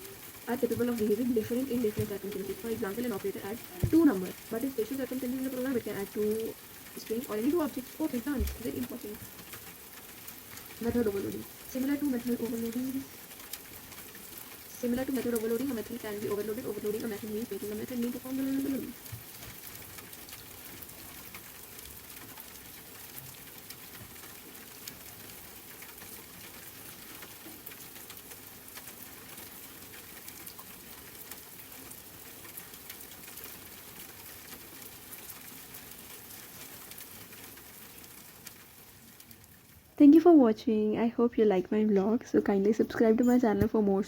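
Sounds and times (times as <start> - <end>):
soft steady rain: 0.0 - 44.0.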